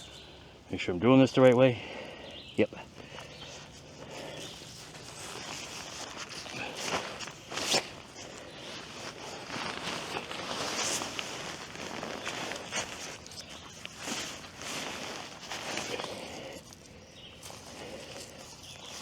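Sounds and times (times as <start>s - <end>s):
tent fabric rustling and crinkling: 2.8s - 19.0s
sharp crackles of fabric: 3.3s - 19.0s.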